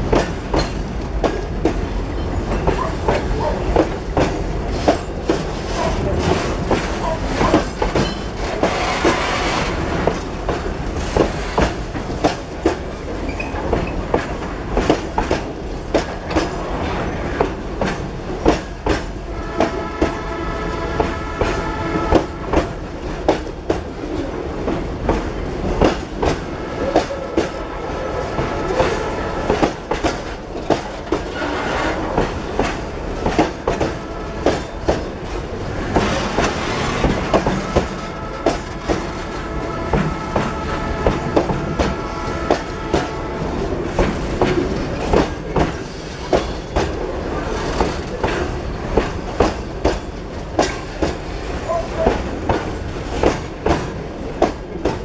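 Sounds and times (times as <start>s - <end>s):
freight train rumble: 0.0s - 55.0s
train wheels clacking over rail joints: 0.0s - 55.0s.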